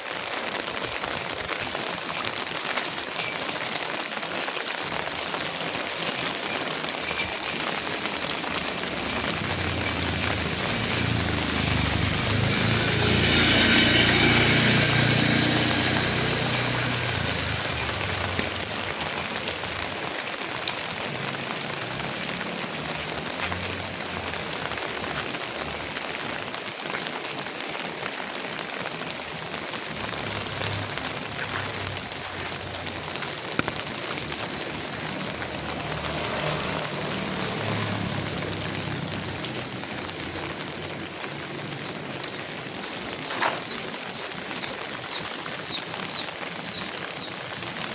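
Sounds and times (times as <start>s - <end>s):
heavy rain falling: 0.0s - 47.9s
raindrop ticks: 0.0s - 47.9s.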